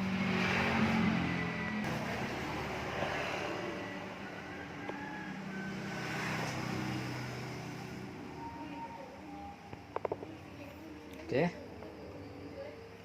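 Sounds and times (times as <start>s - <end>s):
vehicle engine running: 0.0s - 10.7s.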